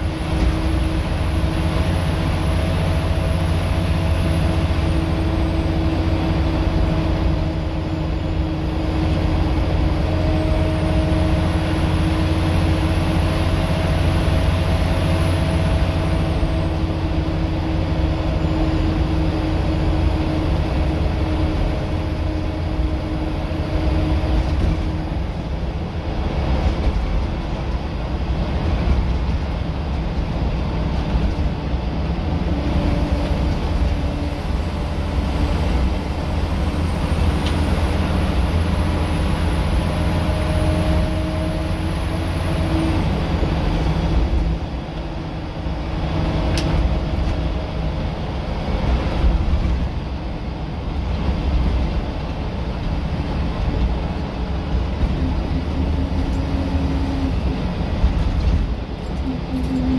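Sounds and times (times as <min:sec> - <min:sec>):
bus engine low drone: 0:00.0 - 0:59.9
drivetrain whine: 0:00.0 - 0:59.9.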